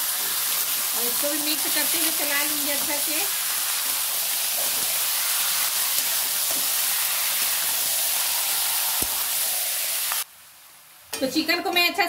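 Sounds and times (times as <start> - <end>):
chicken sizzling in hot oil: 0.0 - 11.8.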